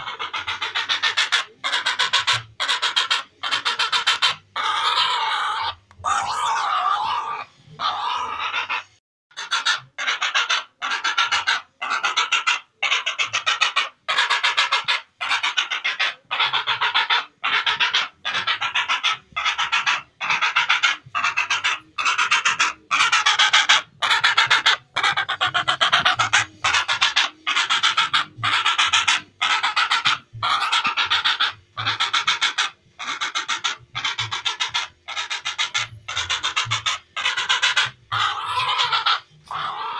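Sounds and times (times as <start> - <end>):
heron rattling calls: 0.0 - 39.9.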